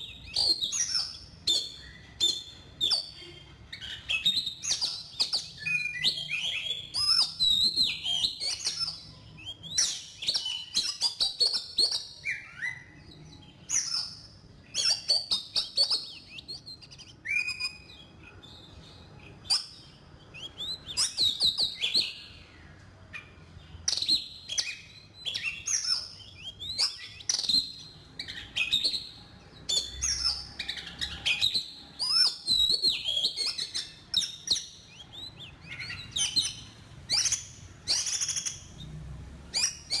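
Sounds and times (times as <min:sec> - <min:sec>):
bird singing whistled phrases: 0:00.0 - 0:18.1, 0:19.4 - 0:22.4, 0:23.9 - 0:38.7, 0:39.5 - 0:40.0.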